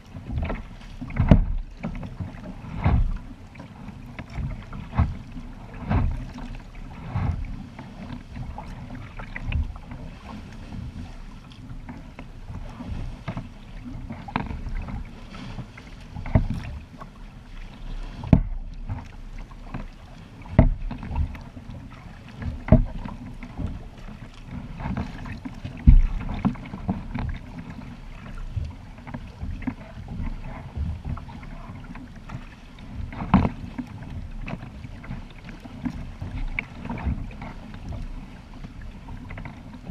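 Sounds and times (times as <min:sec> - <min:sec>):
kayak paddle strokes: 0:00.0 - 0:39.9
water splashing around boat: 0:00.0 - 0:39.9.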